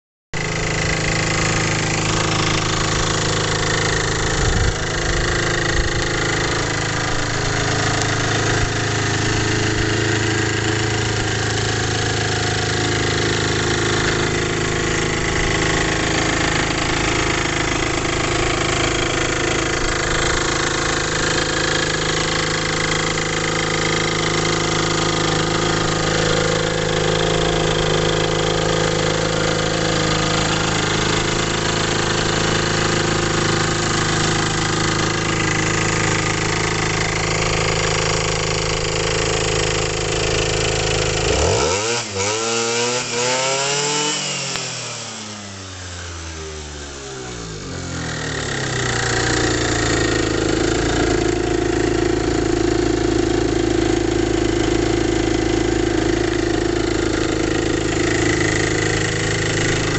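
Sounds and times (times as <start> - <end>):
scooter engine idling: 0.4 - 59.9.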